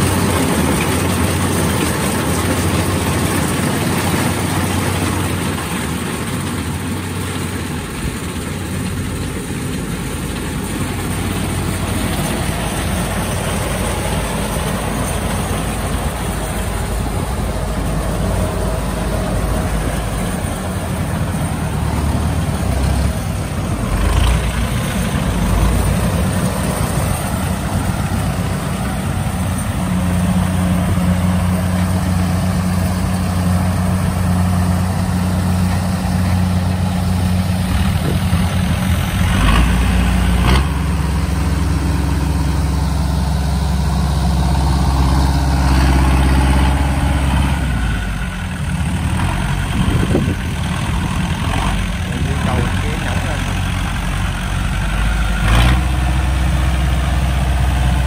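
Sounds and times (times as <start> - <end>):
harvester diesel engine running: 0.0 - 58.0.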